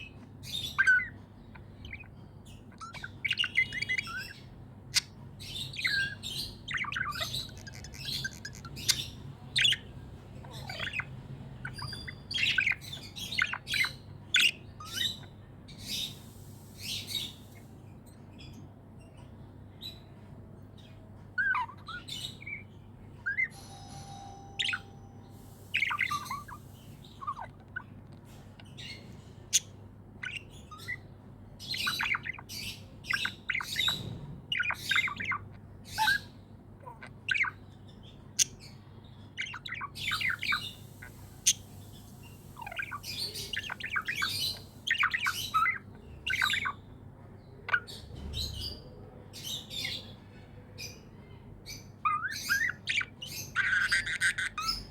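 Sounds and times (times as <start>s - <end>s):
budgerigars chirping: 0.0s - 17.7s, 20.8s - 22.7s, 23.3s - 50.2s, 51.7s - 54.9s.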